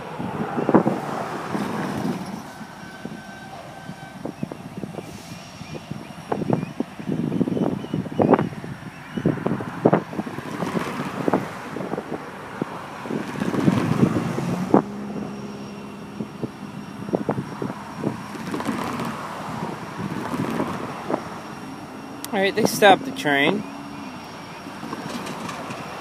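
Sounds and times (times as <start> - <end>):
distant freight train rumble: 0.0 - 26.0
wind buffeting microphone: 0.0 - 26.0.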